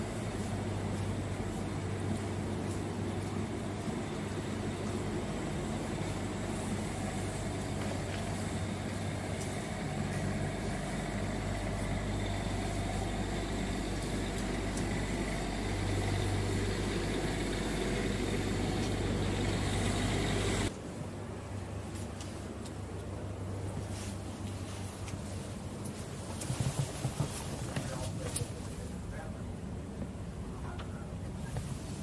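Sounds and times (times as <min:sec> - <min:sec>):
low mechanical hum and rumble: 0:00.0 - 0:32.0.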